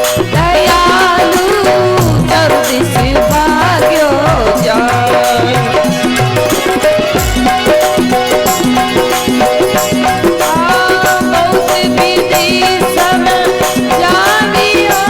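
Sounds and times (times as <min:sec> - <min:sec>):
steady percussion rhythm: 0:00.0 - 0:15.0
wavering sliding melody: 0:01.5 - 0:14.1.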